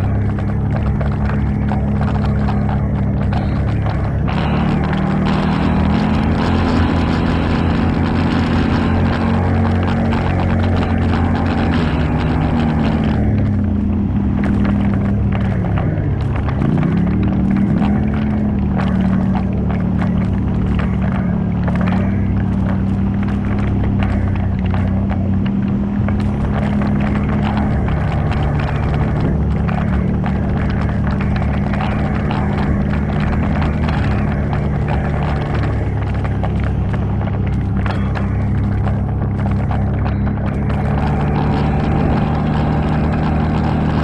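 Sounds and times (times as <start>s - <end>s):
atv engine running: 0.0s - 44.0s
knocks and rattles: 0.0s - 44.0s.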